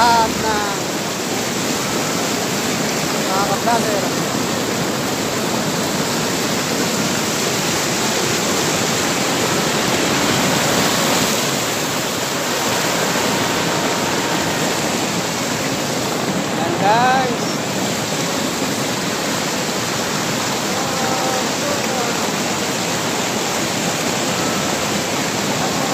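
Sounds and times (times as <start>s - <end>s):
water rushing over a weir: 0.0s - 25.9s.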